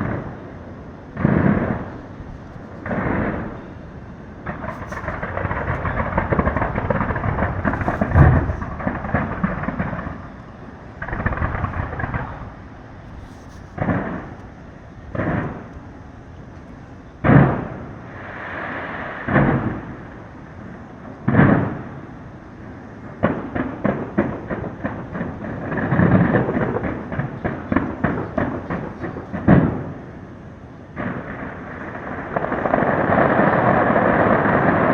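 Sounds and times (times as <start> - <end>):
fireworks booming: 0.0 - 34.9
fireworks crackling: 0.0 - 34.9.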